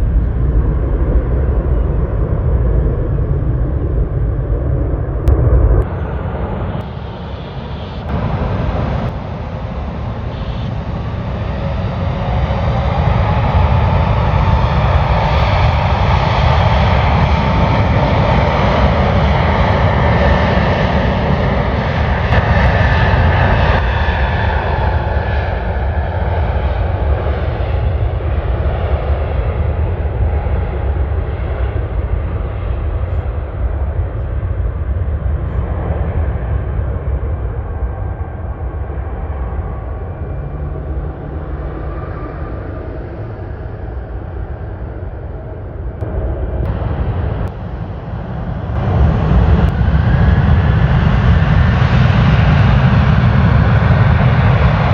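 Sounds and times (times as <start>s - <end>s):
jet airliner passing: 0.0s - 54.9s.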